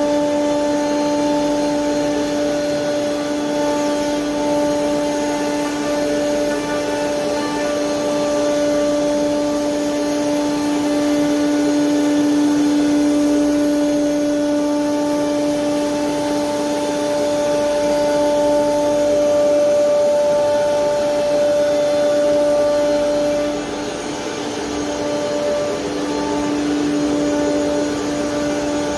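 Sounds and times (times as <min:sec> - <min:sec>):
router spindle whining: 0:00.0 - 0:28.9.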